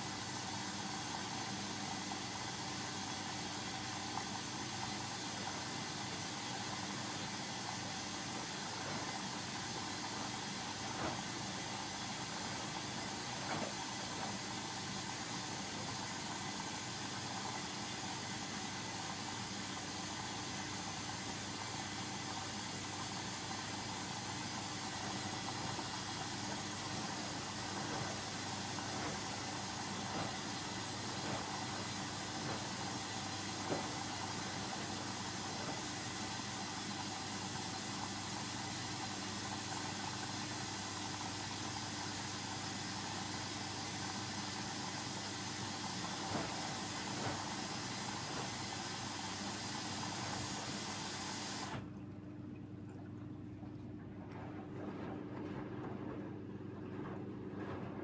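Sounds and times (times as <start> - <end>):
water hissing into washing machine: 0.0 - 52.0, 53.5 - 58.0.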